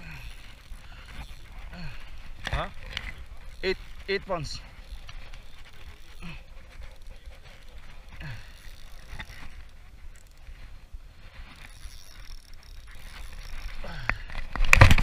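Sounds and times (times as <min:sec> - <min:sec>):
fishing reel gears whirring: 0:00.0 - 0:15.0.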